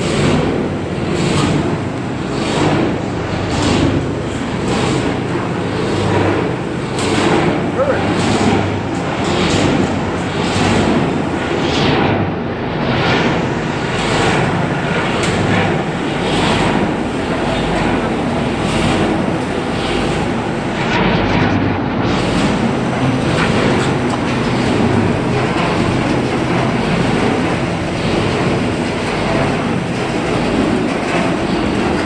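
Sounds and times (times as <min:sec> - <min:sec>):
industrial machinery roaring: 0:00.0 - 0:32.0.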